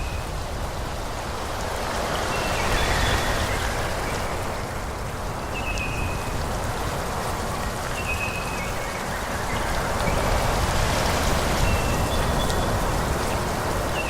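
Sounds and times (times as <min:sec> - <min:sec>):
wind rushing through trees: 0:00.0 - 0:14.0.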